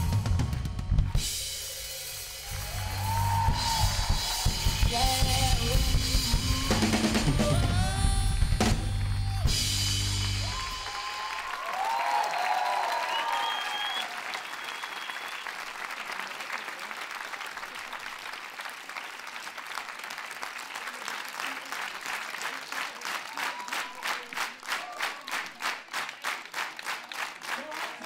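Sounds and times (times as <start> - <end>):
audience applauding: 2.4 - 7.4, 8.8 - 28.0.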